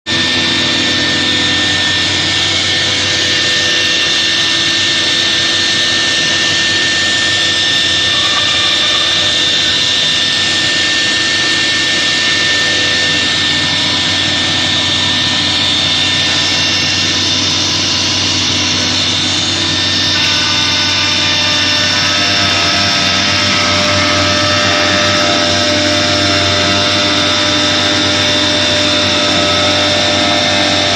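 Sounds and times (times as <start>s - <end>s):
wood router cutting wood: 0.1s - 30.9s.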